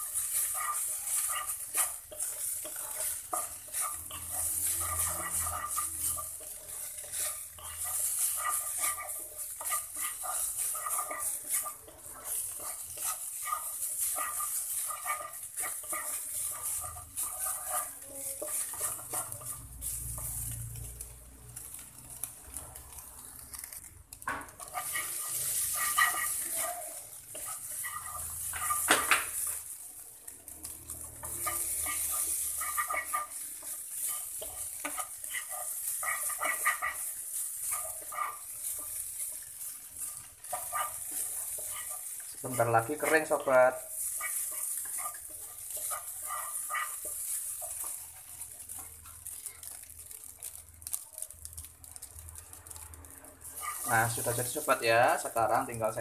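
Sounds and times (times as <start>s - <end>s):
meat sizzling in a wok: 0.0s - 56.0s
wooden spatula scraping a pan: 0.0s - 56.0s.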